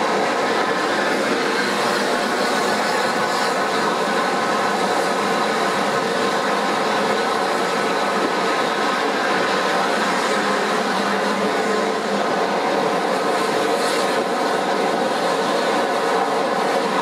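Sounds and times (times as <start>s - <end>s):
train running on rails: 0.0s - 17.0s.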